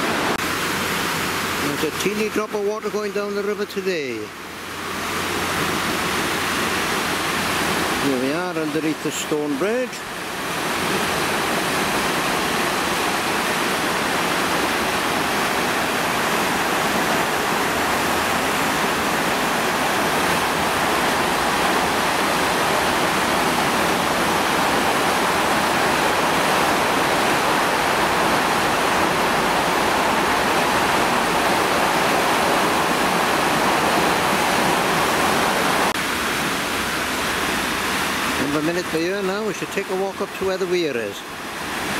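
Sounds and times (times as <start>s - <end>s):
roar of rushing floodwater: 0.0s - 41.9s.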